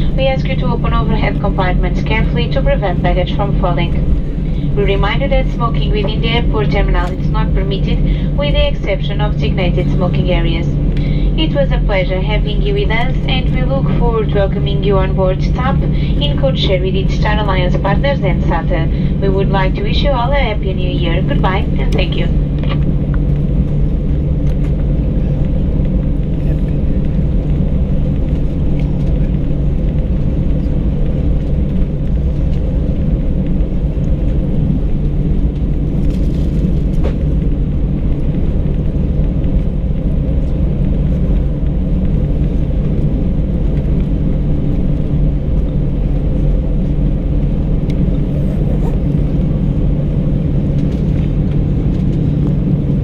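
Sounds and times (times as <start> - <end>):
aircraft cabin rumble: 0.0 - 53.0
engine hum: 0.0 - 53.0.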